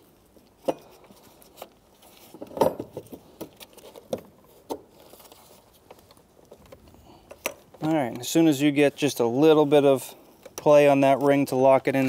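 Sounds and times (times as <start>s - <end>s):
clicks and knocks of handled parts: 0.3s - 8.4s, 10.4s - 12.0s.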